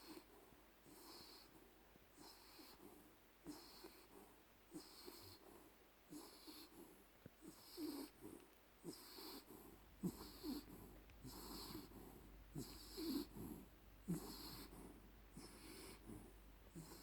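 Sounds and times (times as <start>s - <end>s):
dog snoring: 0.0s - 17.0s.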